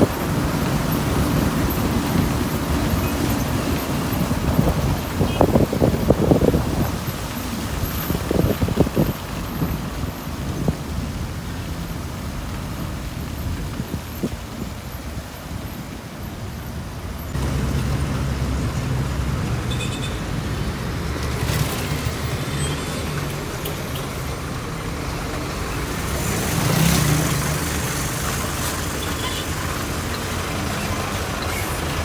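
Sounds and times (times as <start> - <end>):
truck and car engines humming: 0.0 - 32.0.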